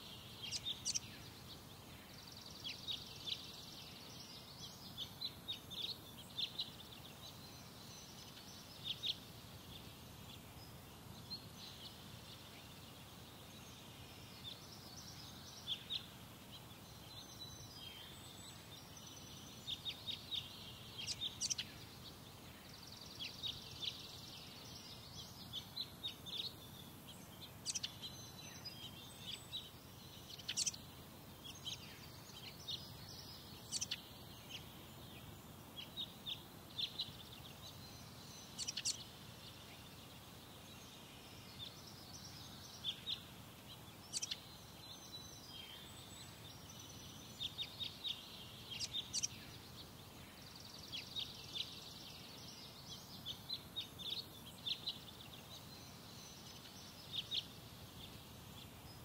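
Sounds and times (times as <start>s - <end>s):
birds chirping: 0.0s - 59.0s
low background noise: 0.0s - 59.0s.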